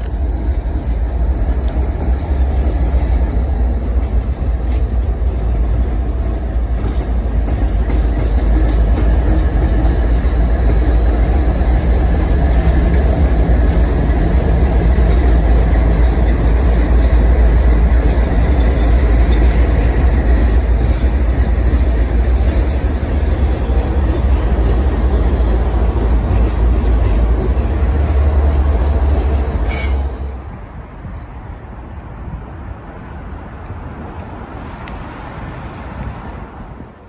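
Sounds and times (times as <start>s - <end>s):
diesel locomotive engine rumble: 0.0s - 37.0s
wheel and rail noise: 0.0s - 37.0s.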